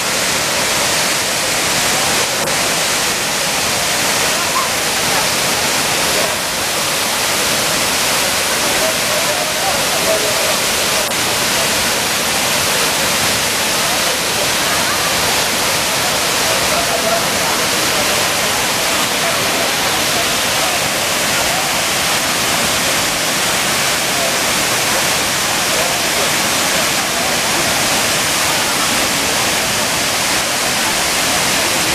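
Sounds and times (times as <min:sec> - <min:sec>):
waterfall pouring: 0:00.0 - 0:31.9.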